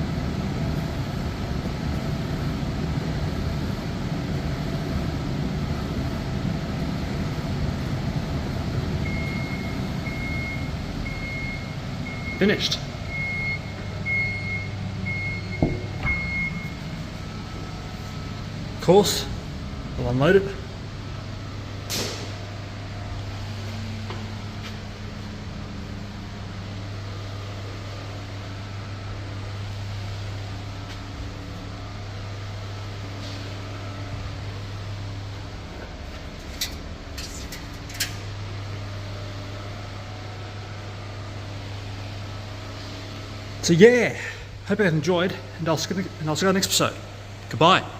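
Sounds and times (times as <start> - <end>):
laundry machine rumbling: 0.0 - 47.9
ventilation fan hiss: 0.0 - 47.9.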